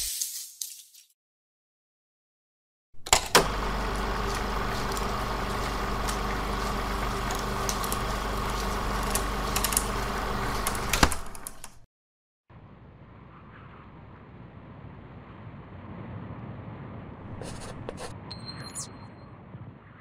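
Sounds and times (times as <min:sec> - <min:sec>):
mechanical hum with low drone: 0:03.0 - 0:11.8, 0:12.5 - 0:20.0.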